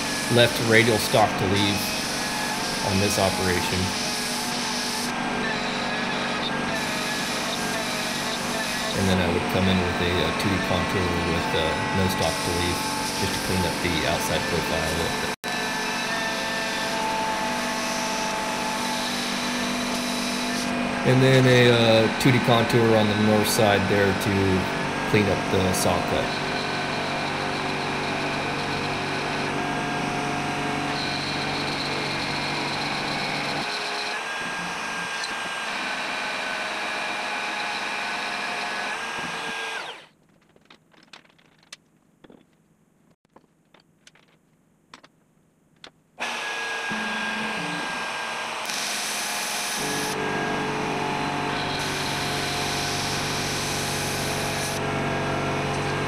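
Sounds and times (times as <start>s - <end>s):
router spindle whining: 0.0s - 40.1s, 46.2s - 56.0s.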